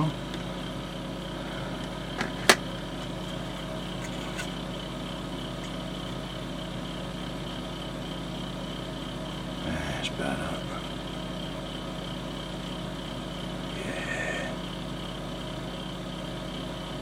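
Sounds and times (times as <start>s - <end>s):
workshop hum: 0.0s - 17.0s.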